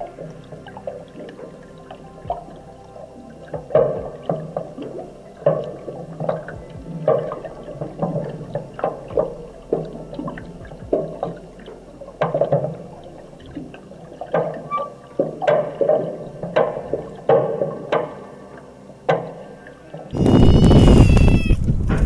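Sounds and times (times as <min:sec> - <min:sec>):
muffled water sloshing and gurgling: 0:00.0 - 0:20.6.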